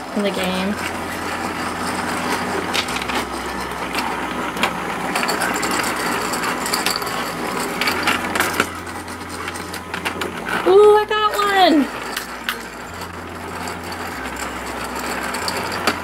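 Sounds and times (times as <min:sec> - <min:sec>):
toy motor rattling whir: 0:00.0 - 0:16.0.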